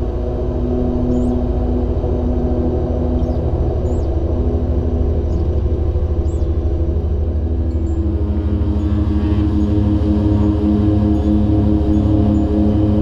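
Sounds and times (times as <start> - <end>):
low pulsing beat: 0.0 - 13.0
turboprop engines droning: 0.0 - 13.0.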